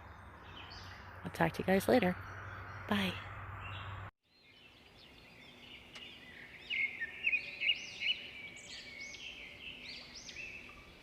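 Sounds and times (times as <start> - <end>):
birds chirping and singing: 0.0 - 11.0.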